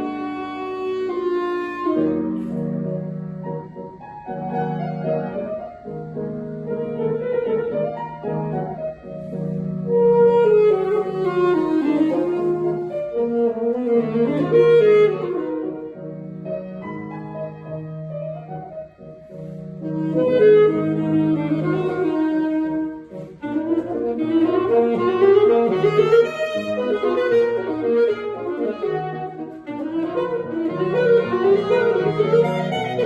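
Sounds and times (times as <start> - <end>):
piano accompaniment: 0.0 - 33.0
wind instrument melody: 0.0 - 33.0.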